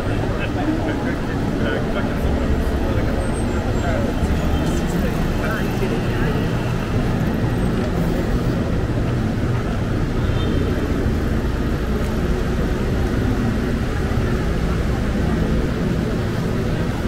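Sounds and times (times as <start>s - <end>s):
low rumble of street traffic: 0.0s - 17.0s.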